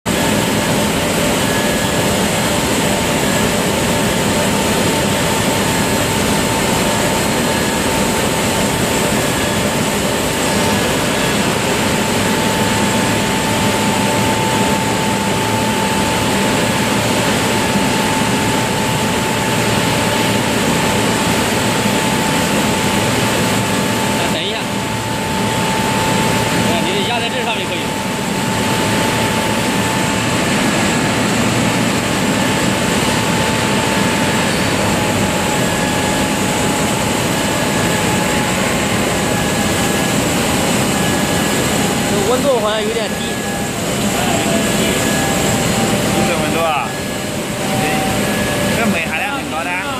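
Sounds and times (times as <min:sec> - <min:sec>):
high machine whine: 0:00.1 - 0:49.9
machinery roaring: 0:00.1 - 0:49.9.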